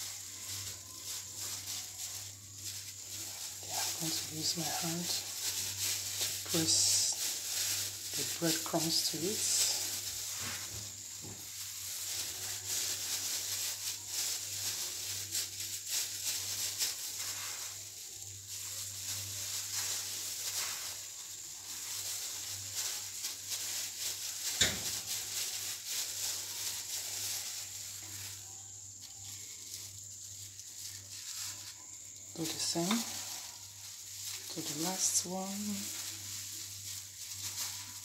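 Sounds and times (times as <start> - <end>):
plastic gloves crinkling: 0.0 - 38.0.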